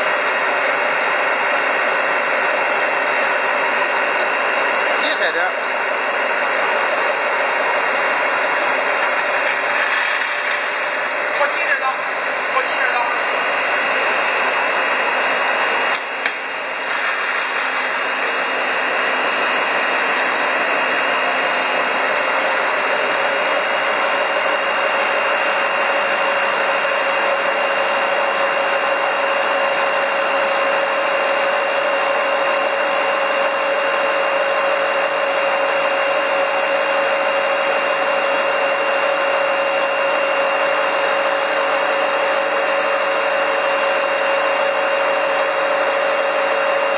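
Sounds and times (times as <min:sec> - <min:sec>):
food extruder whirring: 0:00.0 - 0:46.9.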